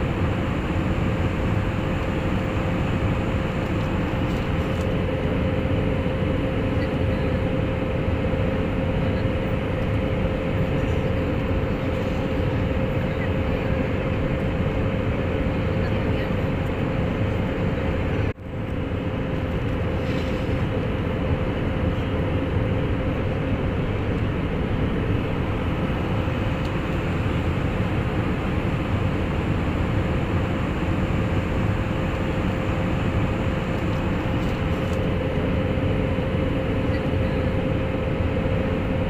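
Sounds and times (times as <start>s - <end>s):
airliner cabin noise: 0.0s - 39.0s
steady hum: 0.0s - 39.0s.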